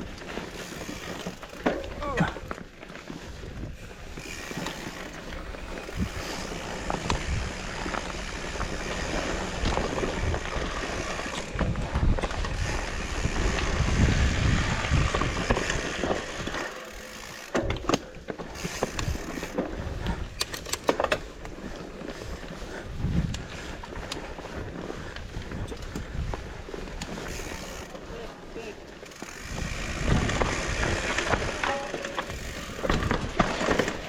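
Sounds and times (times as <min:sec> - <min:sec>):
bike tyres and wind rushing: 0:00.0 - 0:34.0.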